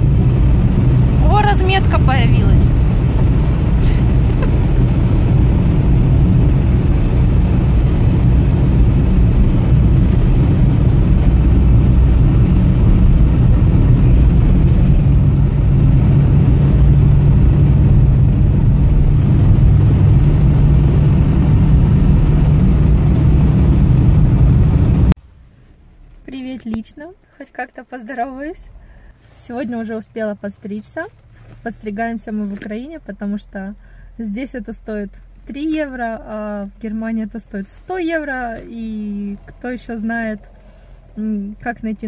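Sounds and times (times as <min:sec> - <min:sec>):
car interior road rumble: 0:00.0 - 0:42.0
engine hum: 0:00.0 - 0:42.0.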